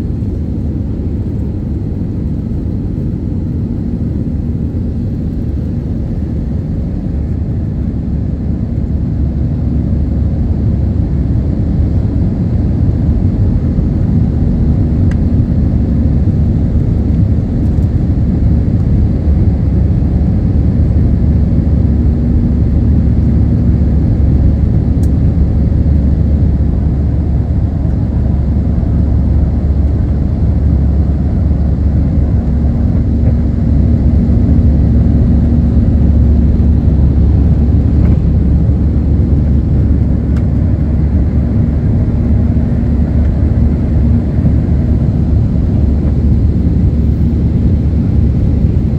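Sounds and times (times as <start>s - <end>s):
hum: 0.0s - 48.9s
jet engine cabin roar: 0.0s - 48.9s.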